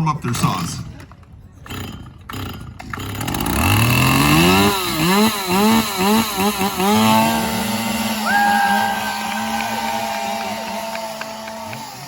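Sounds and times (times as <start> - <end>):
chainsaw engine revving: 1.7 - 12.0.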